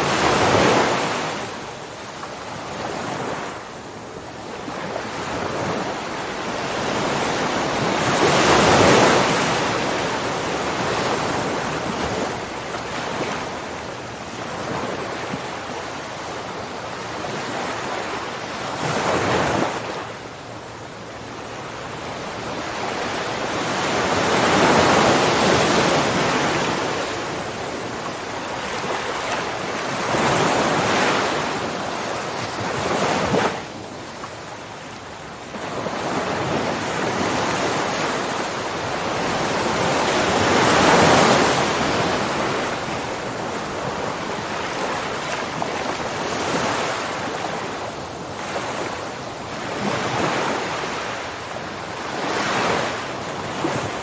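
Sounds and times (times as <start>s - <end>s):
ocean waves surging: 0.0s - 54.0s.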